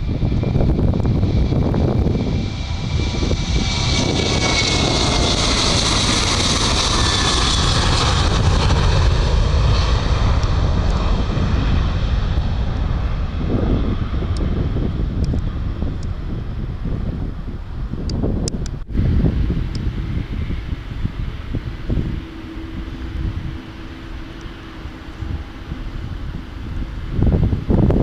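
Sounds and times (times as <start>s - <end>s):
airliner passing by: 0.0s - 28.0s
wind rumble on microphone: 0.0s - 28.0s.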